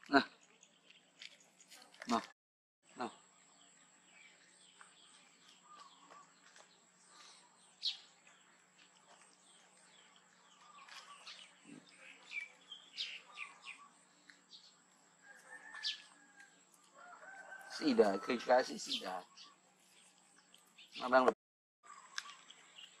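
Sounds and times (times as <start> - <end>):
small birds chirping: 0.0 - 2.3, 2.9 - 23.0.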